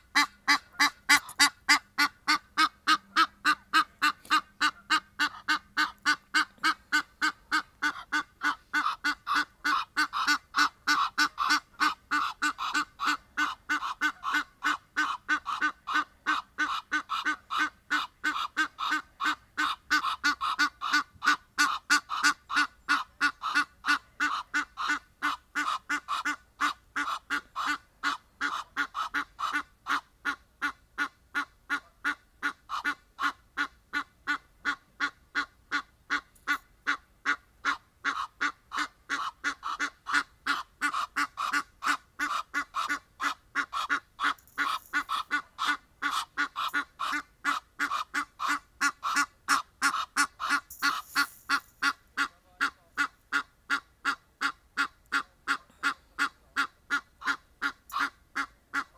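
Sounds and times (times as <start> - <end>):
goose honking: 0.0 - 58.9.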